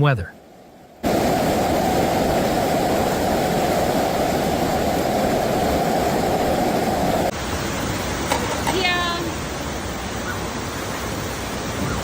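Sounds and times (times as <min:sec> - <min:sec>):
floodwater rushing: 0:00.9 - 0:12.0.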